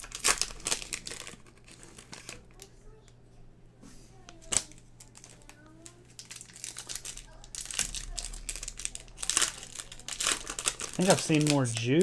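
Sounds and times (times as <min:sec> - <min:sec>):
foil wrapper tearing open: 0:00.0 - 0:02.7, 0:04.4 - 0:12.0.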